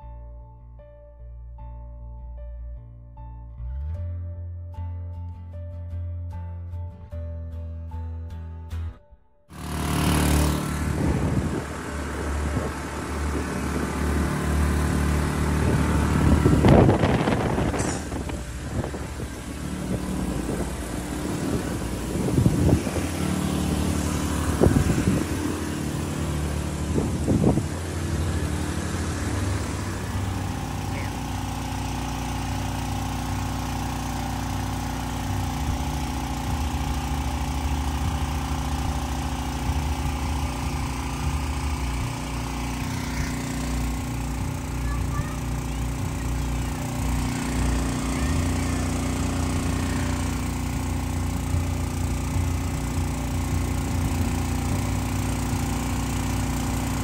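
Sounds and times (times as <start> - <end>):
engine running: 9.5 - 57.0.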